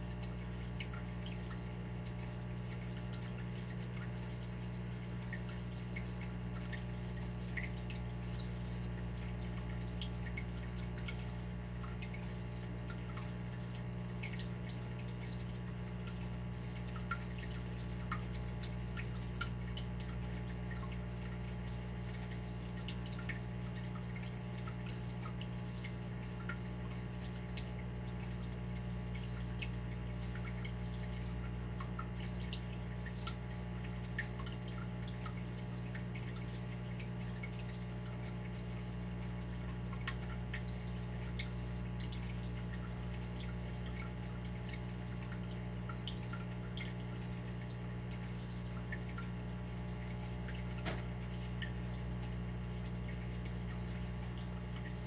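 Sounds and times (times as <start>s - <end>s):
water dripping: 0.0s - 55.0s.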